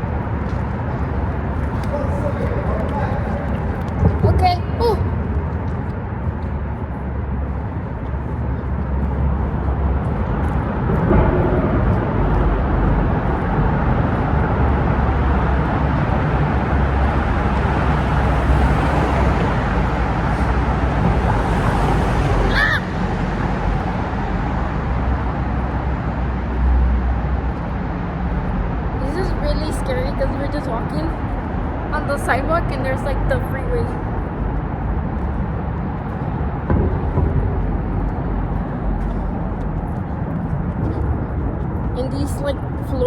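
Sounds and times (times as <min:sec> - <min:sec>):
road traffic passing close: 0:00.0 - 0:43.0.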